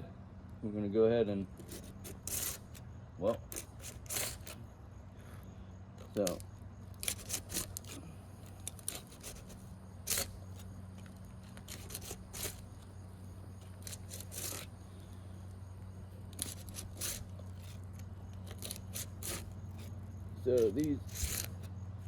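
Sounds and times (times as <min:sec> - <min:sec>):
putty knife scraping shingle: 0:01.5 - 0:04.7, 0:06.0 - 0:21.7.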